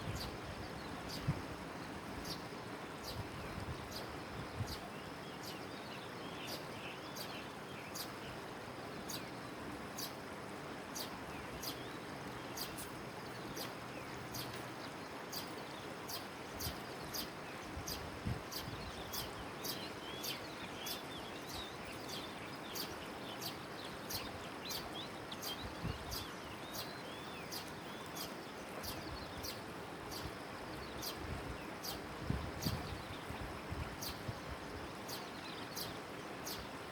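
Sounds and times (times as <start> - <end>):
outdoor background hiss: 0.0 - 36.9.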